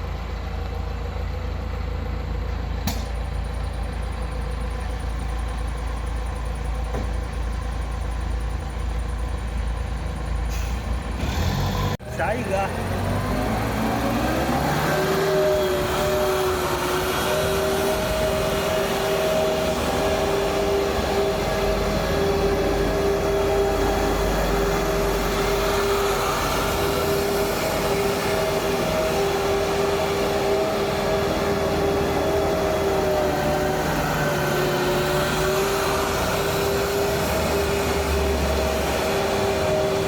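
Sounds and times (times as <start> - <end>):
forklift engine rumbling: 0.0 - 40.0.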